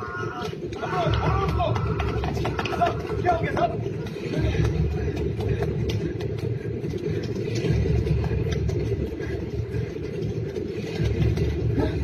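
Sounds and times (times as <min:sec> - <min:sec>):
running footsteps: 0:00.0 - 0:12.0.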